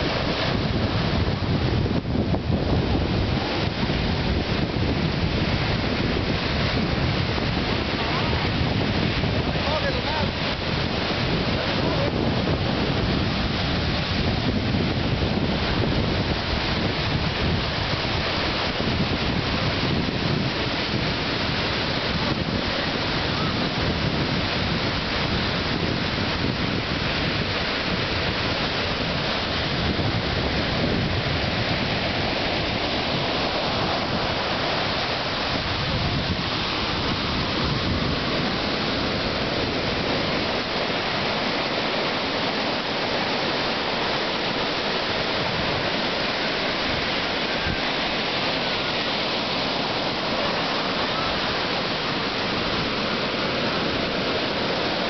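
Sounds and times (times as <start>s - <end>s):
ocean surf breaking on beach: 0.0s - 55.0s
wind rumbling on microphone: 0.0s - 55.0s.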